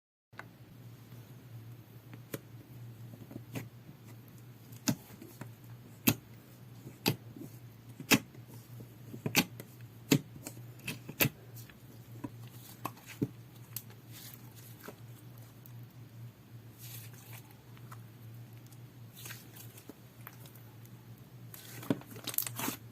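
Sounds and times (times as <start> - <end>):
low steady hum: 0.4 - 22.9.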